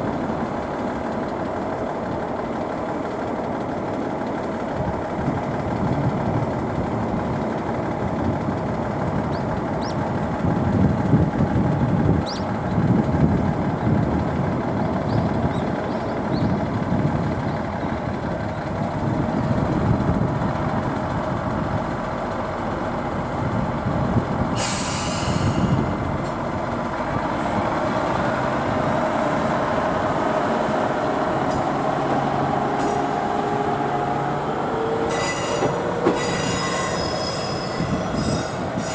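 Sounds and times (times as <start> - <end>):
diesel railcar rumbling: 0.0 - 38.9.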